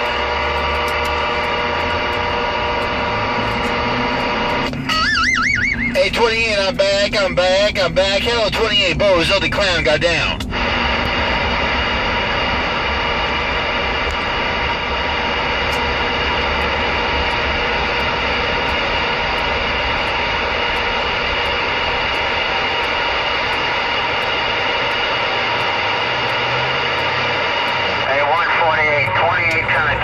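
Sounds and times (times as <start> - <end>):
faint steady tones: 0.0 - 30.0
radio static hiss: 0.0 - 30.0.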